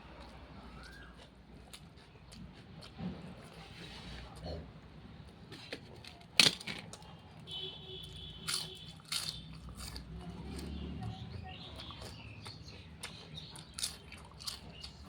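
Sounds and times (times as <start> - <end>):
person chewing food: 0.0 - 6.2, 8.0 - 15.0.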